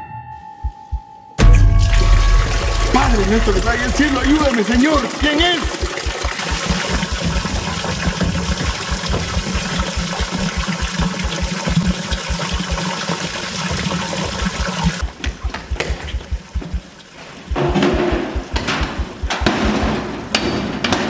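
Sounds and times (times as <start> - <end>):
fast low pulse: 0.5 - 20.2
running water: 1.4 - 20.3.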